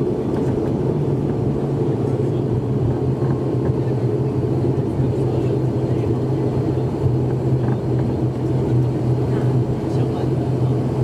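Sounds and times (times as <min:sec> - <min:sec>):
turboprop engine drone: 0:00.0 - 0:11.0.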